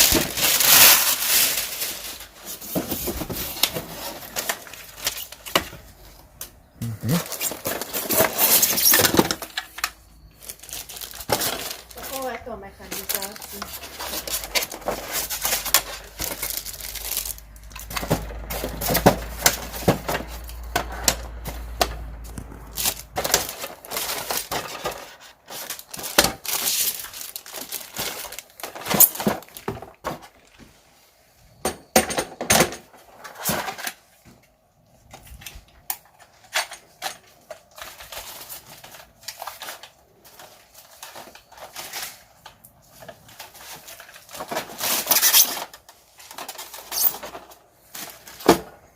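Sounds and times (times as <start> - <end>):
rustling of wrapping: 0.0 - 31.4, 32.9 - 48.9.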